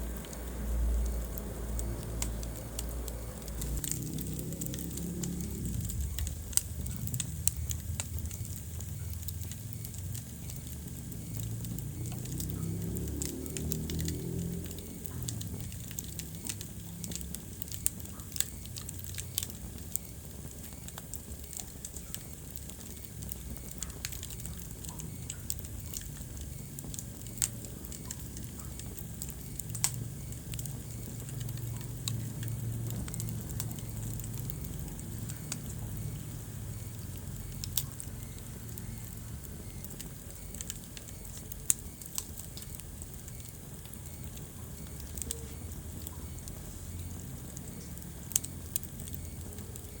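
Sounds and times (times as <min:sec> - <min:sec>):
low rumble of flames: 0:00.0 - 0:50.0
wood fire crackling: 0:00.0 - 0:50.0.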